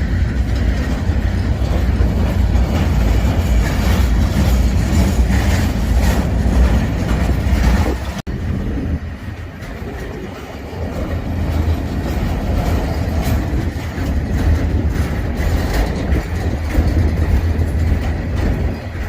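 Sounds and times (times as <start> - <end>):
freight train rumbling: 0.0 - 19.0
wheels clicking over rail joints: 0.0 - 19.0.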